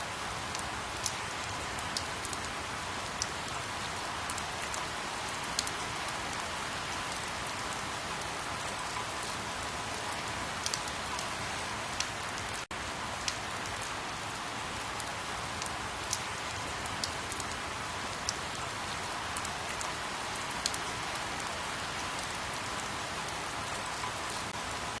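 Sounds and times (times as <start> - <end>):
rain drops ticking: 0.0 - 25.0
steady rain: 0.0 - 25.0.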